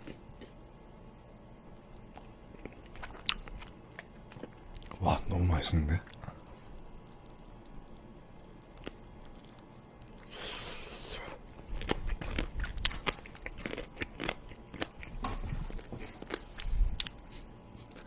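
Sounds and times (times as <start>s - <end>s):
person chewing crisp food: 1.7s - 18.0s.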